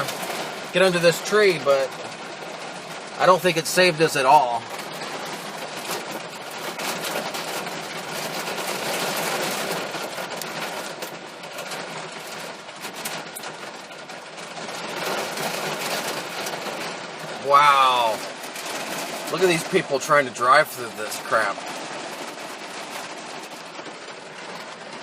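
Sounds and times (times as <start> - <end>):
hail hammering on car roof: 0.0 - 25.0.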